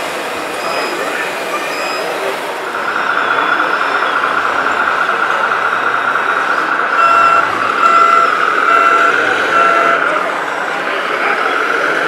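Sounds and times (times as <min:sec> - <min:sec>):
mechanical whir: 0:00.0 - 0:12.0
reversing beeper: 0:00.4 - 0:10.3.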